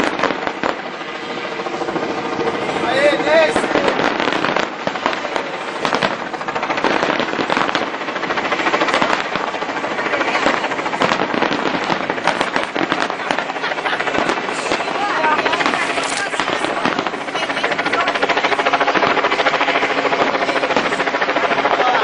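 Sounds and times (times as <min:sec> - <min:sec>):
fireworks cracking and banging: 0:00.0 - 0:22.0.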